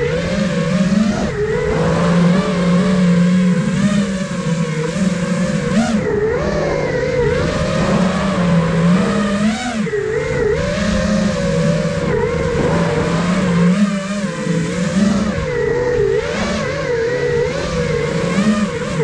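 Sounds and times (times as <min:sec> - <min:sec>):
drone motors whining: 0:00.0 - 0:19.0
wind rush on microphone: 0:00.0 - 0:19.0.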